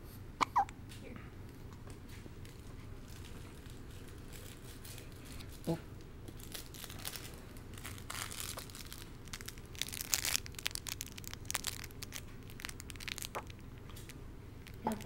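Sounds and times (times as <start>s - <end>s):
paper or plastic crinkling: 2.5s - 15.0s.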